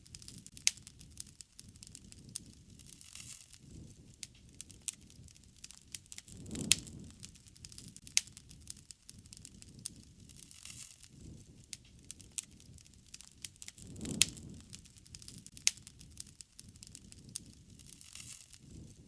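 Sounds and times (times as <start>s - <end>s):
campfire crackling: 0.0s - 19.0s
fire pops and snaps: 0.0s - 19.0s
flames fluttering: 0.0s - 19.0s.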